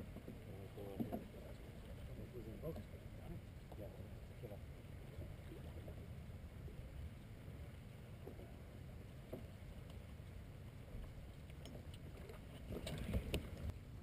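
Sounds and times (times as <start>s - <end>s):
low rumble of small boat: 0.0s - 14.0s
water against hull: 0.0s - 14.0s.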